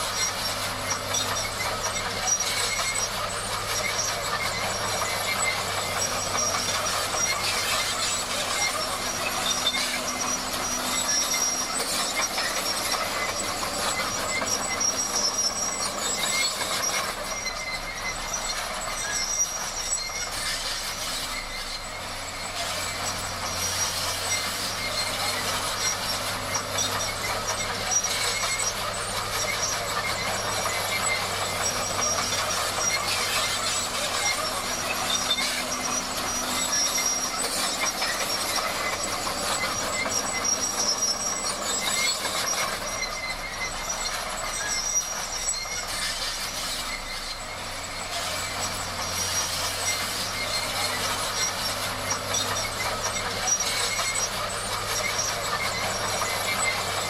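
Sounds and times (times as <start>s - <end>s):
bulldozer engine drone: 0.0s - 57.0s
crawler tracks clattering and squealing: 0.0s - 57.0s.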